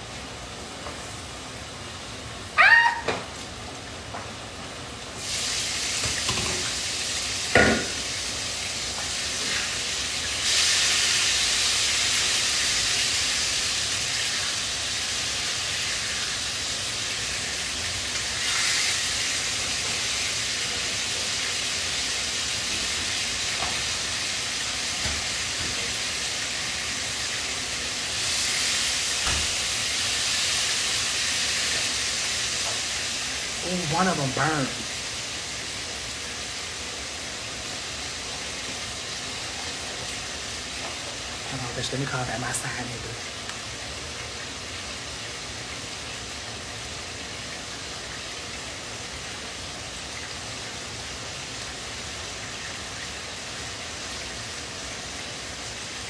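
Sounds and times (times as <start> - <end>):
burger patties sizzling in a pan: 0.0 - 56.0.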